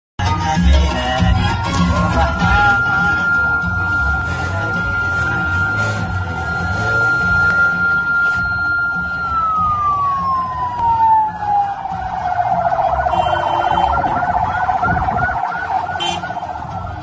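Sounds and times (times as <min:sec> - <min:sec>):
engines and traffic rumble: 0:00.2 - 0:17.0
vehicle siren wailing: 0:01.3 - 0:17.0.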